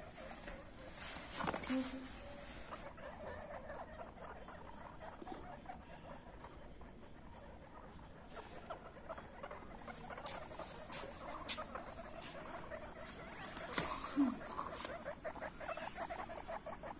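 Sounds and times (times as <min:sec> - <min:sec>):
guinea pigs squeaking: 0:00.0 - 0:16.9.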